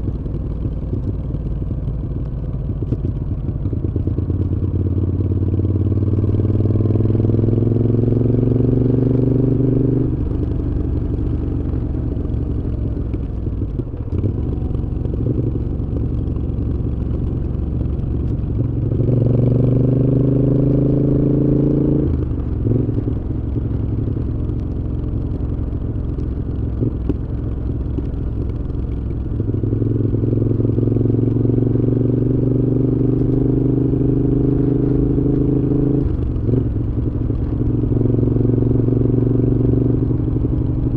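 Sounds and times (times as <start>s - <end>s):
motorcycle engine revving: 2.6s - 28.0s, 28.8s - 40.9s.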